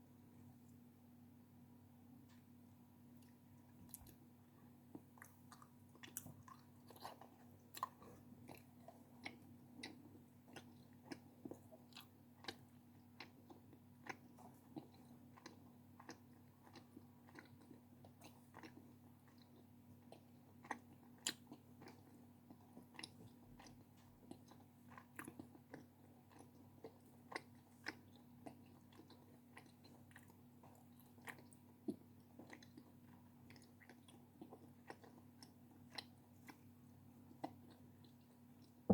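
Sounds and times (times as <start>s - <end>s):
faint steady hum: 0.0s - 38.9s
chewing crunches: 3.2s - 4.2s, 4.9s - 36.7s.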